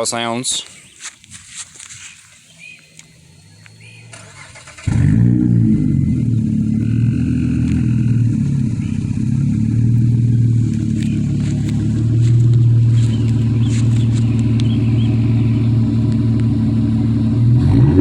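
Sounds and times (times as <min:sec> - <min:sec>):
car engine starting and idling: 0:02.6 - 0:18.0.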